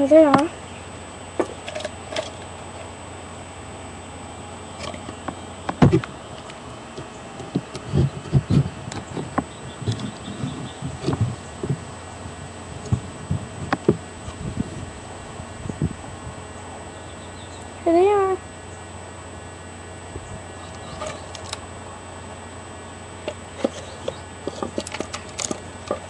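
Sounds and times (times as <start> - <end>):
low microphone hum: 0.0 - 26.0.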